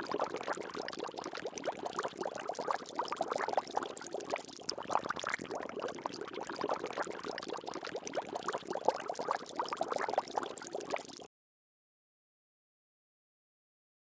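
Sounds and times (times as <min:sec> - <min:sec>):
water bubbling: 0:00.0 - 0:11.3.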